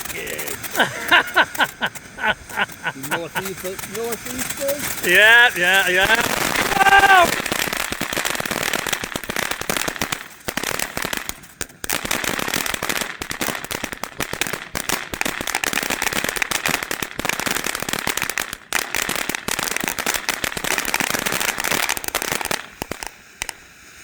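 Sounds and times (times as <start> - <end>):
fountain firework crackling: 0.0 - 24.0.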